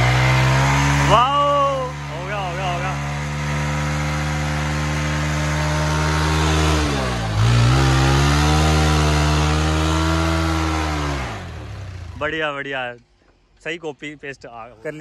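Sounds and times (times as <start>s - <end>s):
motorcycle engine revving high: 0.0s - 12.4s.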